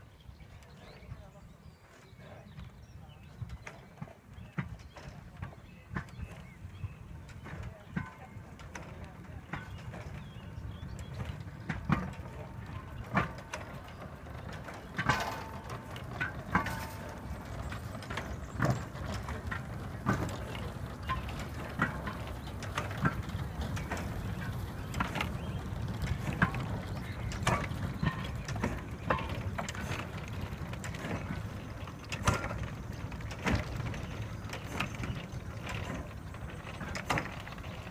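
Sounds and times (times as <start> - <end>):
steam locomotive rumble: 0.9 - 37.9
metallic knocks of locomotive wheels: 2.5 - 37.9.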